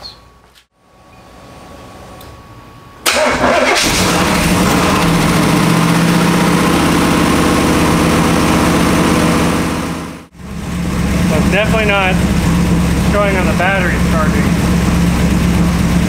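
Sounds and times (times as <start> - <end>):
car engine cranking and idling: 3.0 - 16.0.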